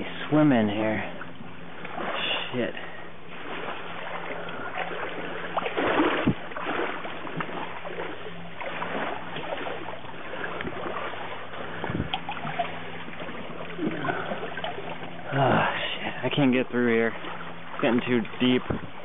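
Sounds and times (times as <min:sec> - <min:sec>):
water splashing around wading legs: 0:00.0 - 0:19.0.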